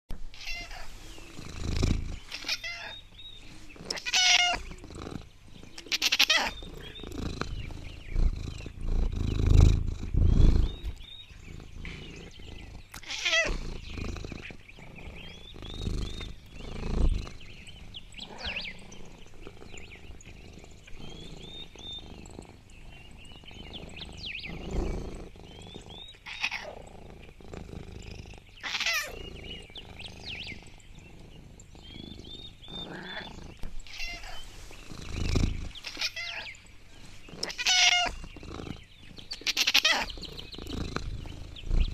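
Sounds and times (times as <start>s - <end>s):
cat calling and purring: 0.2s - 3.2s, 3.8s - 36.6s, 37.3s - 41.9s.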